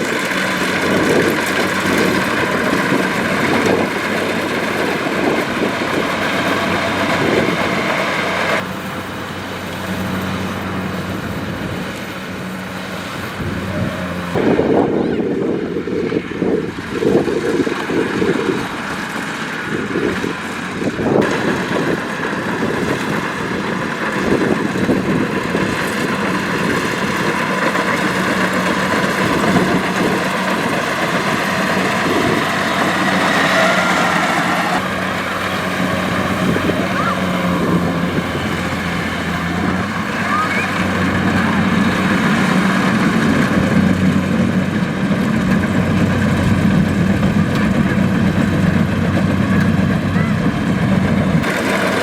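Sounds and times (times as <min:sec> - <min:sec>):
combine harvester diesel drone: 0:00.0 - 0:52.0.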